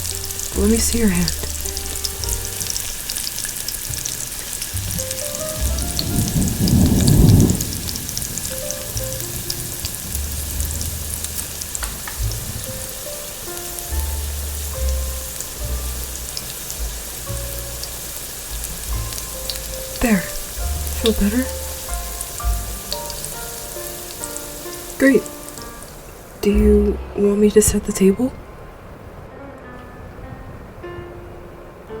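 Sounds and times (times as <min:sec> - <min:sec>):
crackling hiss: 0:00.0 - 0:26.6
soft piano music: 0:00.0 - 0:32.0.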